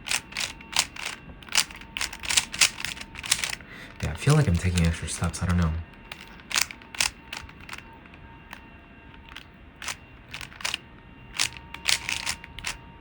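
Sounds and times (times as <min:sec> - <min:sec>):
puzzle cube plastic clicks: 0:00.0 - 0:05.0, 0:05.9 - 0:12.8.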